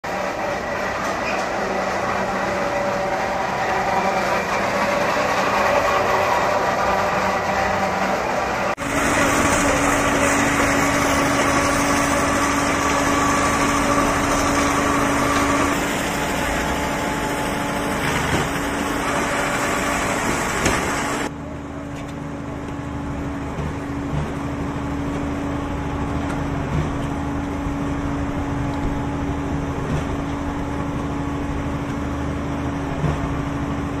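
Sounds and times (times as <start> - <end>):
concrete pump machinery running: 0.0 - 34.0.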